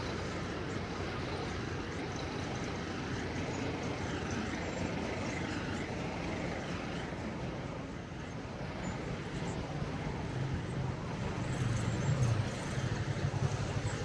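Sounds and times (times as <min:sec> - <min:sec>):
vehicle engines passing: 0:00.0 - 0:14.0.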